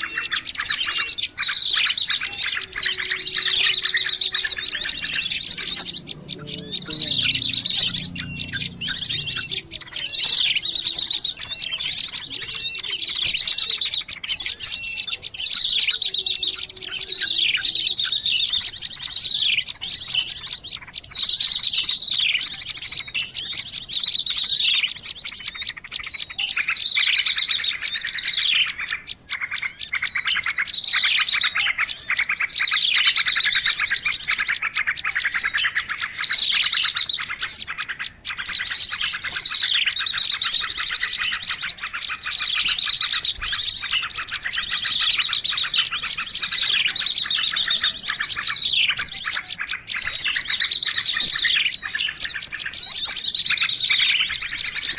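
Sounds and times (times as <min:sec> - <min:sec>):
songbirds chirping and trilling: 0:00.0 - 0:54.9.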